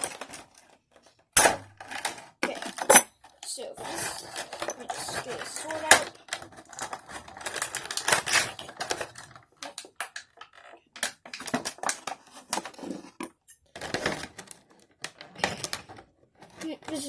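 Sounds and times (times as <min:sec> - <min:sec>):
plastic parts clicking and rattling: 0:00.0 - 0:17.0.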